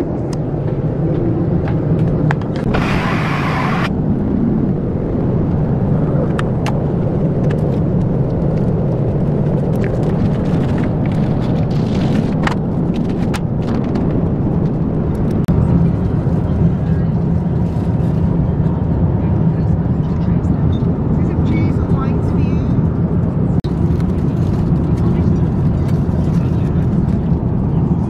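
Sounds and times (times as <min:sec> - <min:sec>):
airplane cabin rumble: 0:00.0 - 0:28.0.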